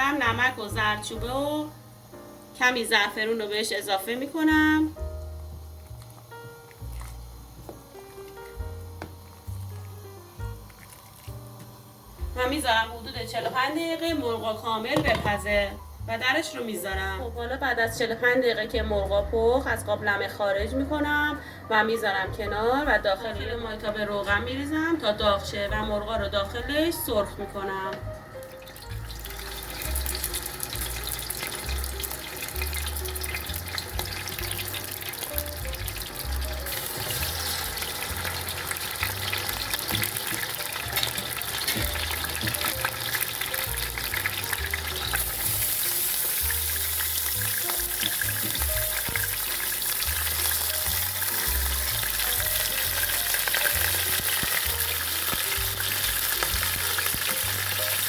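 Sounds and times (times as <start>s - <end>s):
chicken sizzling in hot oil: 0.0s - 58.0s.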